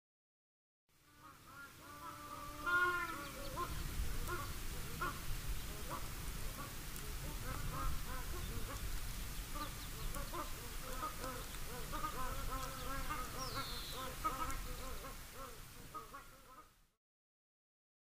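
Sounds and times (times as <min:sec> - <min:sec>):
birds calling: 0:01.1 - 0:16.6.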